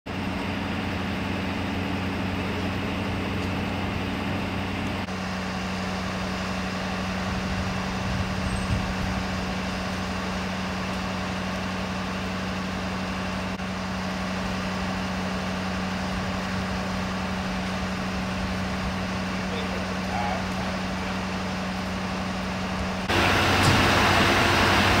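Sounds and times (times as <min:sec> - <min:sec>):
emergency vehicle engines idling: 0:00.1 - 0:25.0
street noise: 0:00.1 - 0:25.0.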